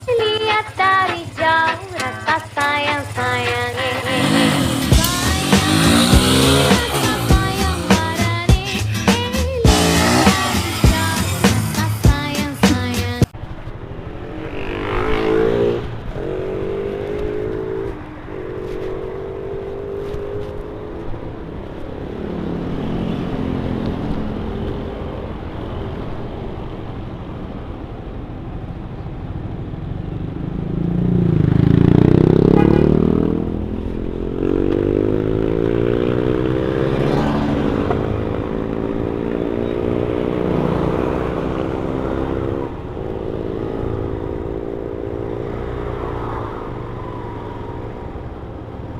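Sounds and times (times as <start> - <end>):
motorcycle engine accelerating: 0.0 - 13.1, 13.8 - 25.8, 29.4 - 48.9.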